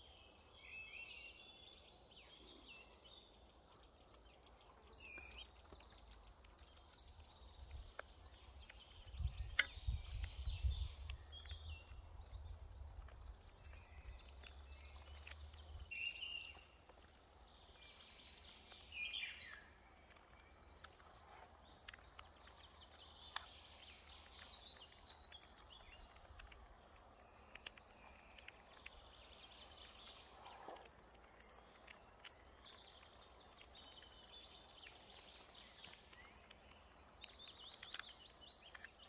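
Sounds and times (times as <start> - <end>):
songbirds chirping and trilling: 0.0 - 39.0.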